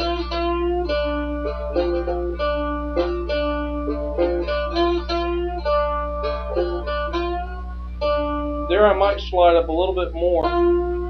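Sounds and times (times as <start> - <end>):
slide guitar riff: 0.0 - 11.0
steady low hum: 0.0 - 11.0.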